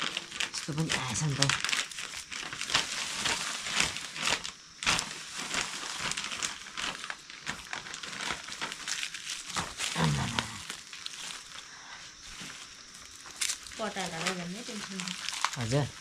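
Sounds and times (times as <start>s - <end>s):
dry leaves crackling and rustling: 0.0s - 16.0s
plastic bags crinkling: 0.0s - 16.0s.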